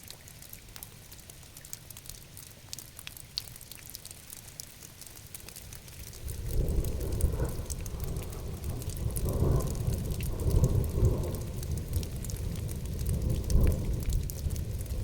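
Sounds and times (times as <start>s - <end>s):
rain falling: 0.0s - 15.0s
raindrop ticks: 0.0s - 15.0s.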